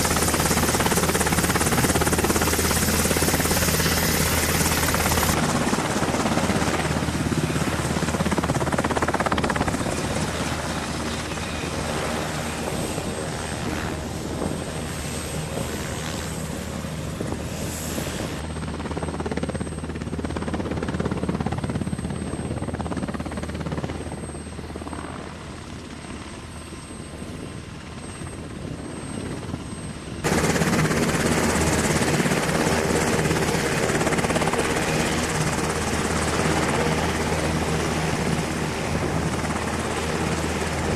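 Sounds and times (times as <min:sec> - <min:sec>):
helicopter rotors beating: 0:00.0 - 0:40.9.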